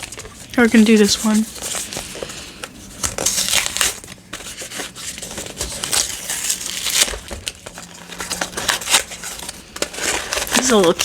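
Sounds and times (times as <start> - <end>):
packaging crinkling and rustling: 0.0 - 11.0
packaging tearing: 0.0 - 11.0.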